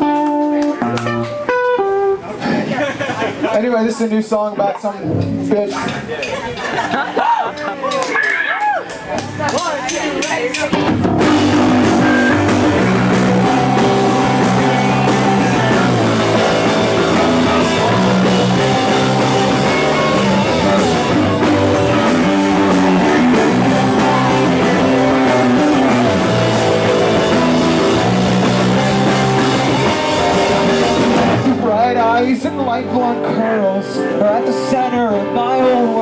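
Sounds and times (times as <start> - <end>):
rock band playing: 0.0 - 3.4, 5.0 - 8.1, 9.1 - 36.0.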